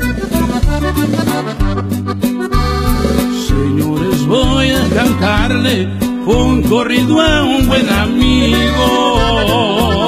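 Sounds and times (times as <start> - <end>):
percussion hits: 0.0 - 9.4
accordion melody: 0.0 - 10.0
bass line: 0.0 - 10.0.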